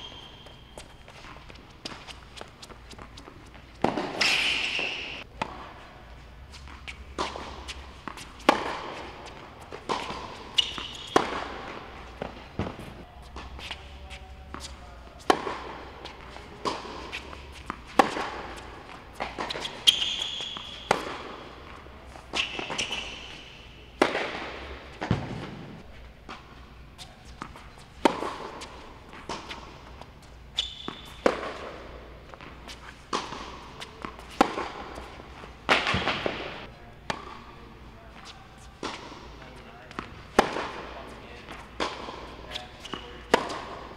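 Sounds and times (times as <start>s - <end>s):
tennis ball bouncing on court: 0.0s - 5.7s, 6.6s - 26.5s, 27.1s - 43.9s
tennis ball struck by racket: 1.2s - 5.6s, 6.8s - 13.9s, 14.5s - 26.5s, 27.4s - 30.0s, 30.8s - 37.6s, 38.2s - 43.9s.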